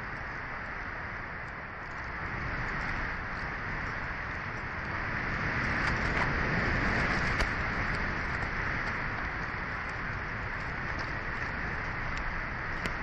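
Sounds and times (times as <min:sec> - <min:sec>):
wind gusting on microphone: 0:00.0 - 0:13.0.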